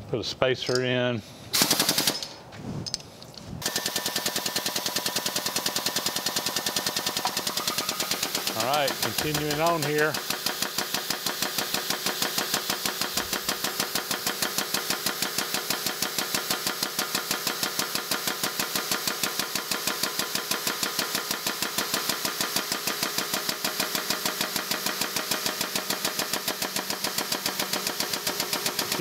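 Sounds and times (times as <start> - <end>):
hydraulic jack pumping: 5.1 - 29.0.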